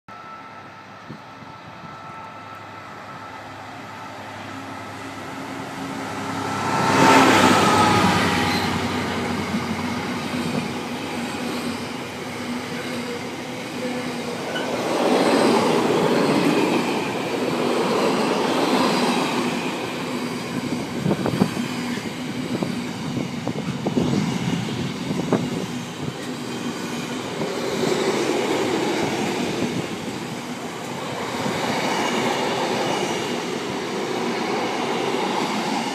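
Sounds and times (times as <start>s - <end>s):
diesel locomotive passing: 0.1s - 35.9s.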